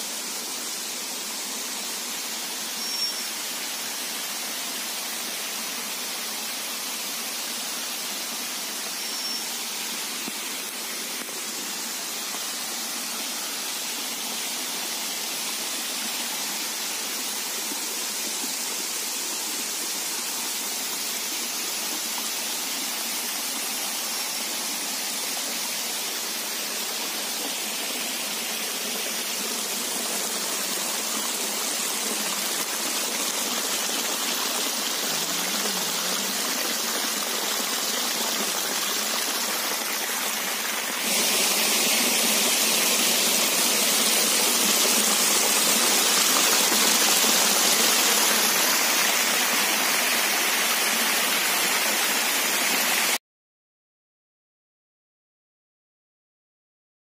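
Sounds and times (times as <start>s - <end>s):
waterfall rushing over rock: 0.0s - 53.2s.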